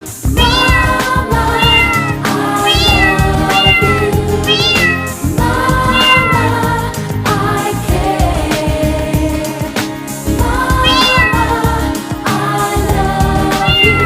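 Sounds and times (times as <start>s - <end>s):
eighties-style song: 0.0s - 14.0s.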